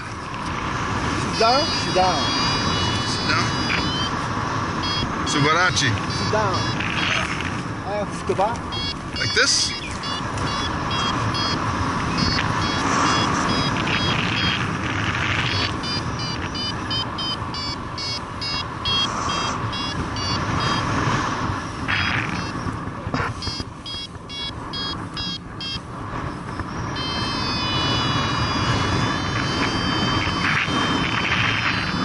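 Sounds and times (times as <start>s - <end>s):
long steady tone: 0.0s - 32.0s
variometer beeping: 0.0s - 32.0s
wind across microphone: 0.0s - 32.0s.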